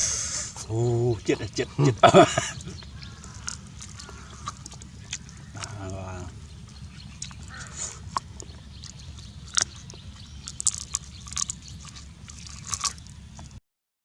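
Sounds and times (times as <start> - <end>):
person chewing crunchy food: 0.0 - 13.6.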